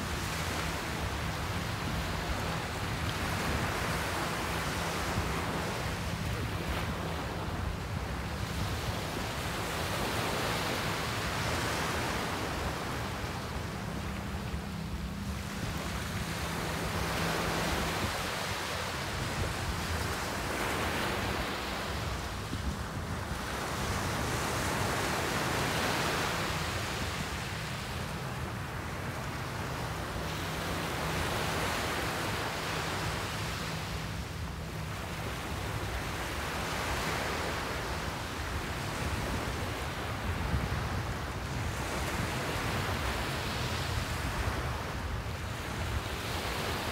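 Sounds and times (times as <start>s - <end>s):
small waves breaking on beach: 0.0s - 46.9s.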